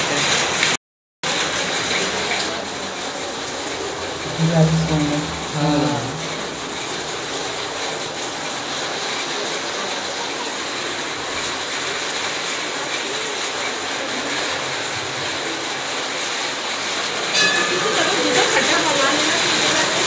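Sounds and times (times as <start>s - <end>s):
heavy rain on a tin roof: 0.0s - 20.0s.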